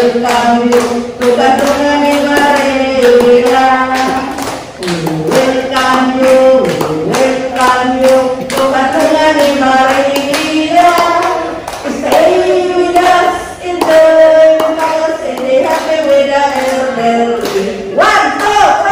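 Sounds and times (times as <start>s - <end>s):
rhythmic clapping: 0.0s - 18.9s
woman singing into microphone: 0.0s - 18.9s.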